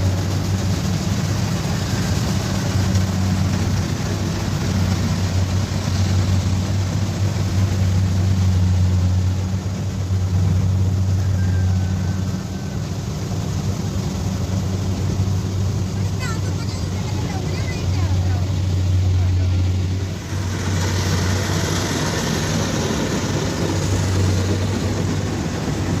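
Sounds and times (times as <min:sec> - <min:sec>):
combine harvester diesel engine: 0:00.0 - 0:26.0
machinery noise: 0:00.0 - 0:26.0.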